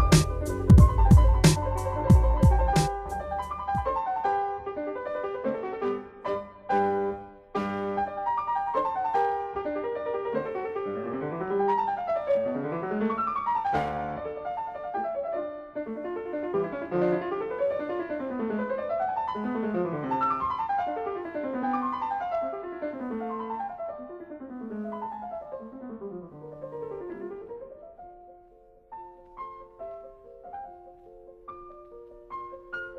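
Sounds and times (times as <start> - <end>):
piano music: 0.0 - 32.9.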